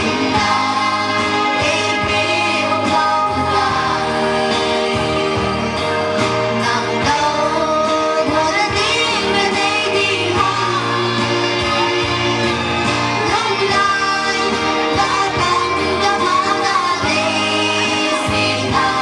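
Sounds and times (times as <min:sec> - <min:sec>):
girls singing into microphones: 0:00.0 - 0:19.0
instrumental backing with beat: 0:00.0 - 0:19.0.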